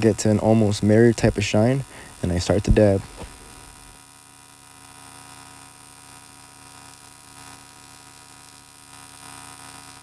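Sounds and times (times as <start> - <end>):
welding arc buzzing: 0.0 - 10.0.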